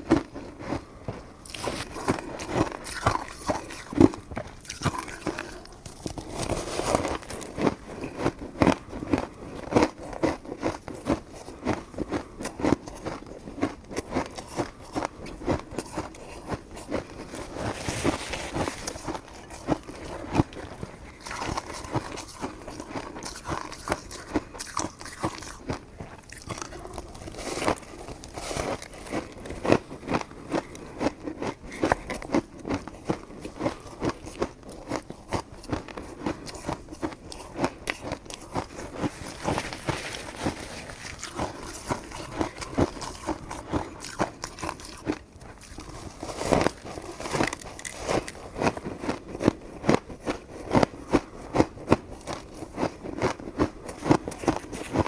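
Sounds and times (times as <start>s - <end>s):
chewing sticky rice cake: 0.0s - 55.0s.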